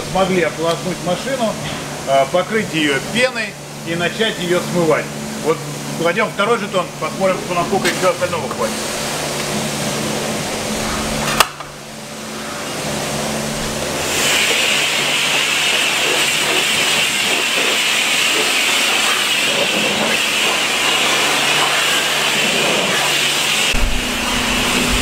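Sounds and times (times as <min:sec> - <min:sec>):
pressure washer spraying water: 0:00.0 - 0:25.0.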